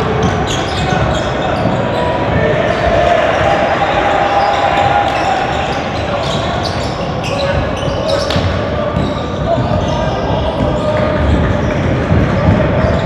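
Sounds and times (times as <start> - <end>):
voices in a gym: 0.0 - 13.0.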